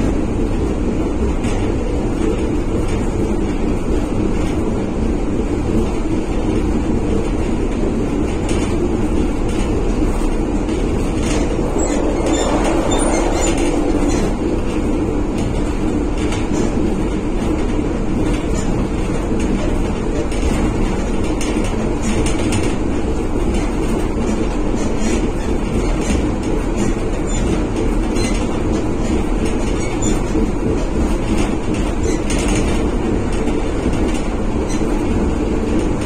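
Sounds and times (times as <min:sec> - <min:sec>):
train running gear rumble: 0:00.0 - 0:36.0.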